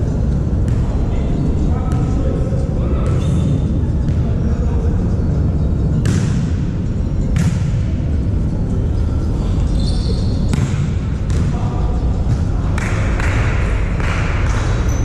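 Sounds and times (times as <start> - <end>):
low rumble in sports hall: 0.0 - 15.0.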